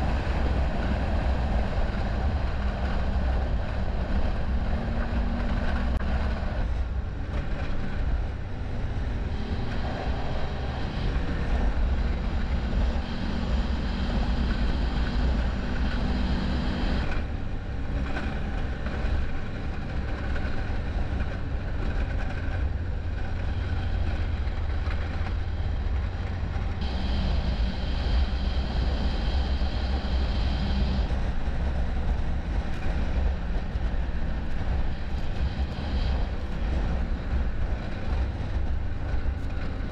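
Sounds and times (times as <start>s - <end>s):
wind rumble on microphone: 0.0s - 39.9s
snowmobile engine running: 7.1s - 39.9s.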